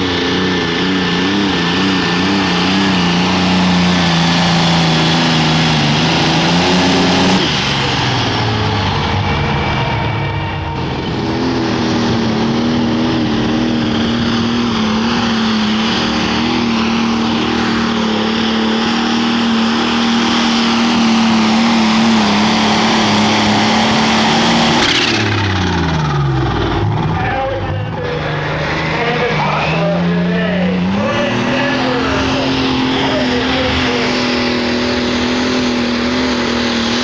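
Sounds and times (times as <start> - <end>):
diesel engine at full throttle: 0.0 - 37.0.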